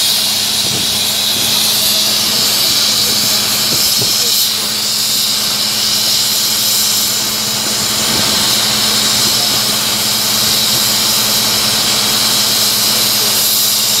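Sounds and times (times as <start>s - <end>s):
engine hum: 0.0s - 14.0s
loud even hiss: 0.0s - 14.0s.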